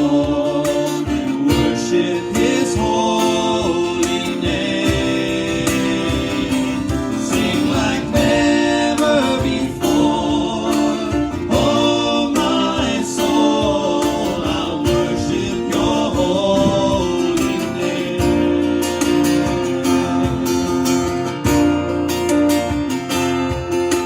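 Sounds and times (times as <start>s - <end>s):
person singing hymn melody: 0.0s - 21.3s
strummed acoustic guitar: 0.0s - 24.0s.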